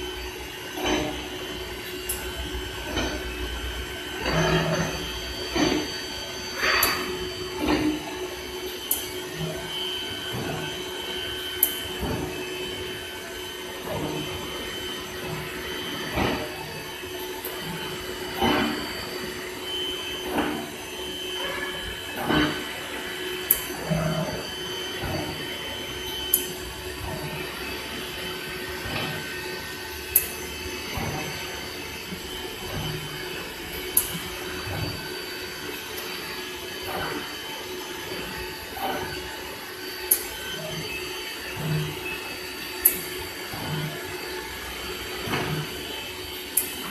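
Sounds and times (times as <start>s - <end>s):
cnc router humming and whining: 0.0s - 46.9s
machine noise: 0.0s - 46.9s.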